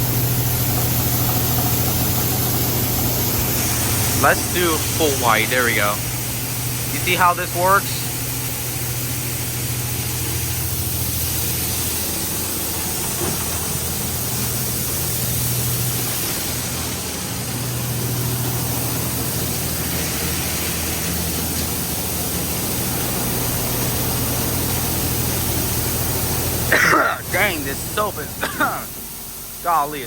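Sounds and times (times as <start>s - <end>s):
low pump hum: 0.0s - 30.0s
spray jets hissing: 0.0s - 30.0s.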